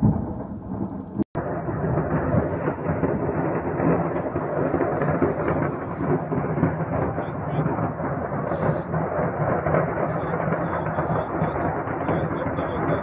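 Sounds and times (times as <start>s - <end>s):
distant large fire crackling: 0.0s - 13.0s.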